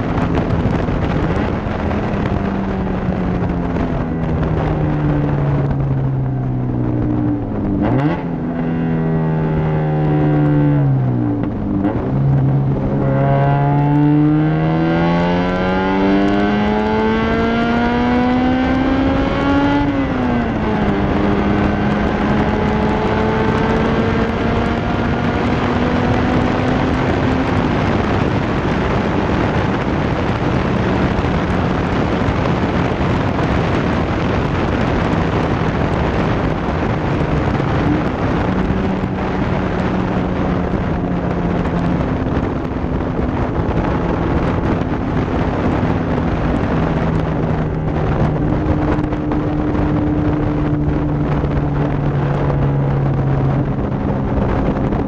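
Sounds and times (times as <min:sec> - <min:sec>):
car engine accelerating: 0:00.0 - 0:55.0
road noise: 0:00.0 - 0:55.0
wind on microphone: 0:00.0 - 0:55.0.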